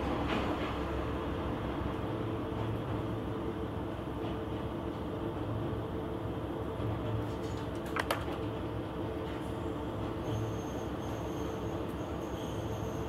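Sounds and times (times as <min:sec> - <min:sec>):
railcar engine drone: 0:00.0 - 0:13.0.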